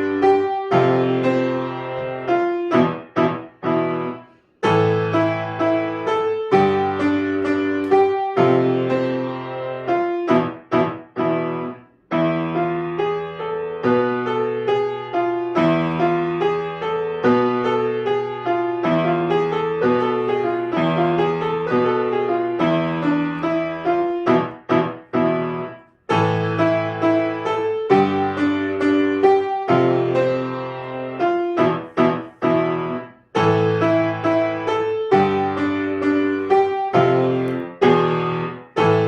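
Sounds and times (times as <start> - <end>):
solo piano: 0.0 - 39.0.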